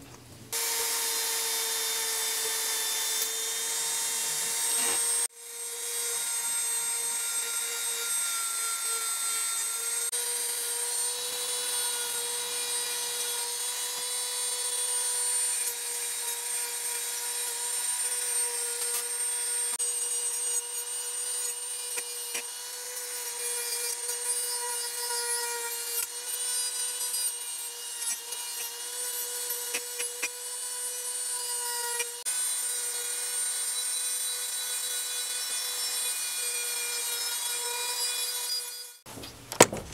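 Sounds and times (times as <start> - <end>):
rotary tool motor whine: 0.5 - 39.0.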